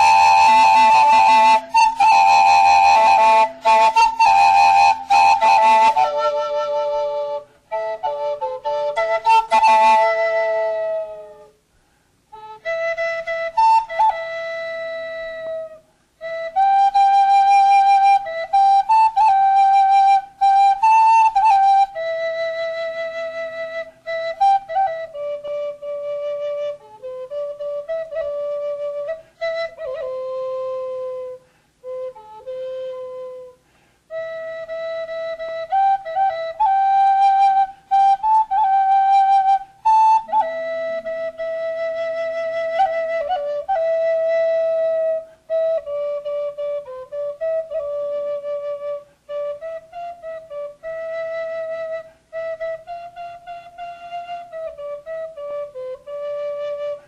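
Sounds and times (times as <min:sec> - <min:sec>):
end-blown flute melody: 0:00.0 - 0:11.7, 0:12.3 - 0:57.0.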